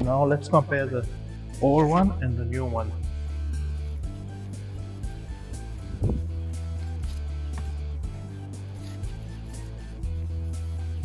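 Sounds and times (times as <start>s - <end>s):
music with deep bass line: 0.0s - 11.0s.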